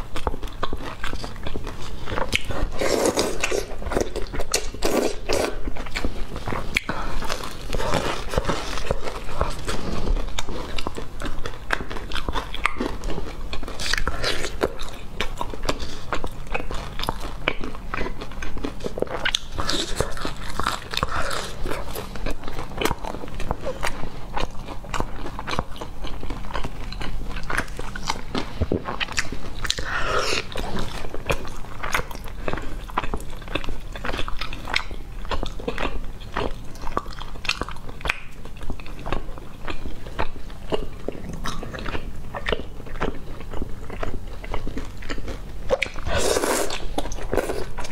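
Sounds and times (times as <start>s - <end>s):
chewing and crunching fried chicken: 0.0s - 47.9s.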